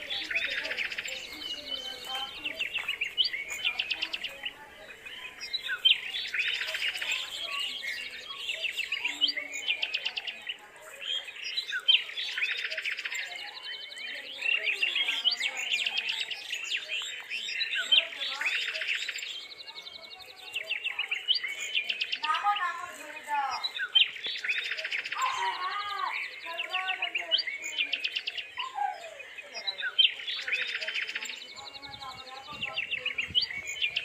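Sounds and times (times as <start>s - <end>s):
birds chirping and peeping: 0.0s - 34.0s.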